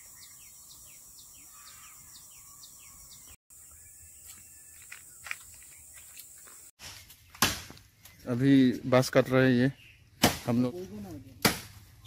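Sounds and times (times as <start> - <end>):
faint bird chirping: 0.0 - 10.2.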